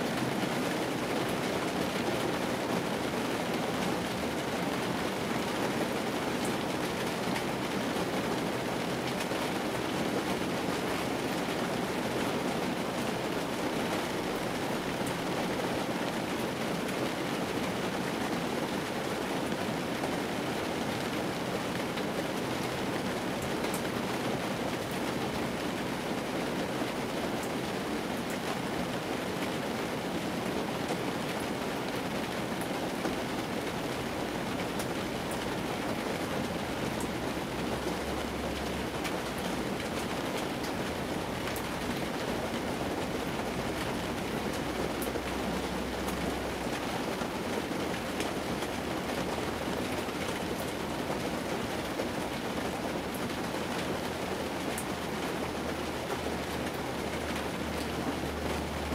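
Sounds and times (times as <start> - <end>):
rain drops ticking: 0.0 - 58.9
rain hissing on car roof: 0.0 - 58.9.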